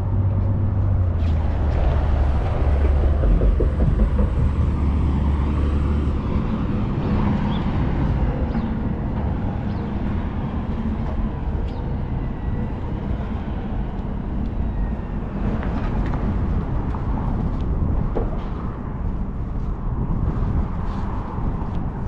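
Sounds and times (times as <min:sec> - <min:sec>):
passing traffic rumble: 0:00.0 - 0:22.0.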